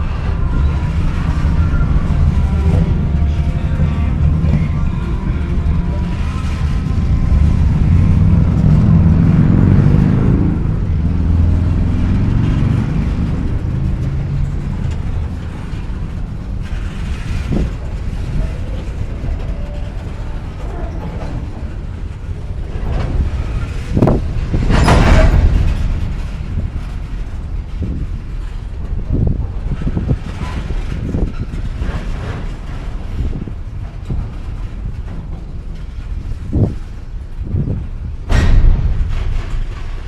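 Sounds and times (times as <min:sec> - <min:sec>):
rush of noise: 0:00.0 - 0:40.0
train rolling on track: 0:00.0 - 0:40.0.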